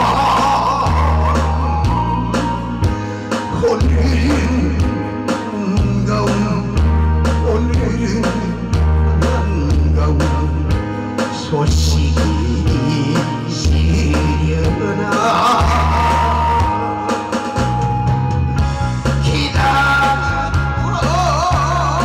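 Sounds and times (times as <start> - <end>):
person singing into microphone: 0.0 - 18.0, 19.0 - 22.0
pop backing track with bass: 0.0 - 22.0.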